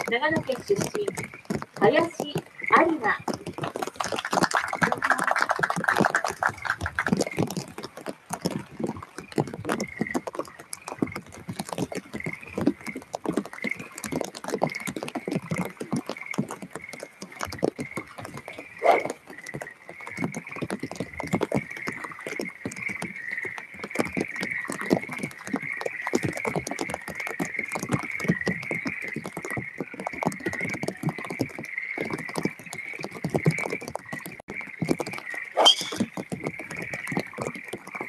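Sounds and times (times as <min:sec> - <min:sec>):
frogs croaking: 0:00.0 - 0:38.0
rain pattering: 0:00.0 - 0:38.0.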